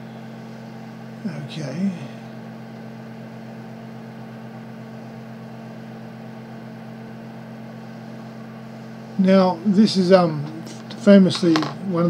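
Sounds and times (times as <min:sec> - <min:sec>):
low hum with held tones: 0:00.0 - 0:12.0.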